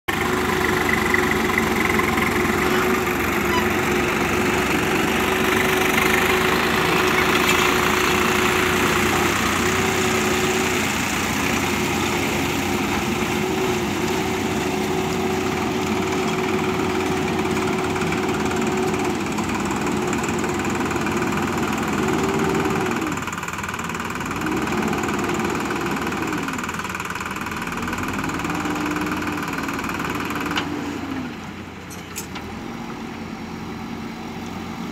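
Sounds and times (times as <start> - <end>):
diesel engine revving: 0.1 - 31.8.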